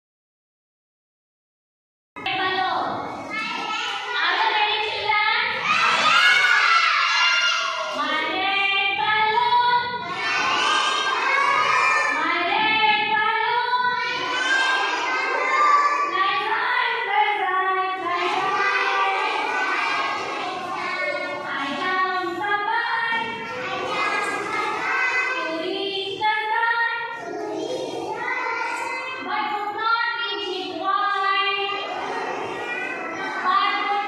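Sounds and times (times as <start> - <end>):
children singing together: 5.5 - 34.0.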